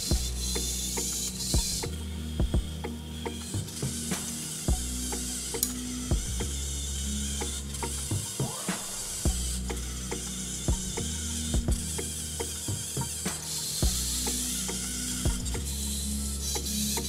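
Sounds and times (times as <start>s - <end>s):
servo motor buzz: 0.0s - 17.0s
sharp servo clicks: 0.0s - 17.0s
short gear whirs: 0.0s - 17.0s.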